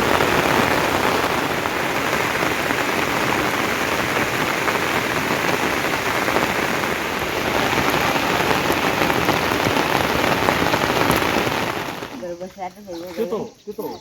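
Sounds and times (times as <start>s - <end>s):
heavy rain falling: 0.0s - 12.3s.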